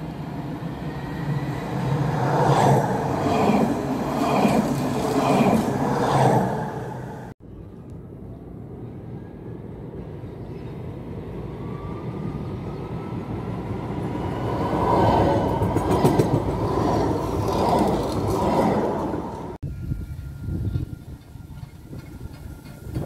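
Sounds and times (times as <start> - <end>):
tram running on rails: 0.0 - 23.0.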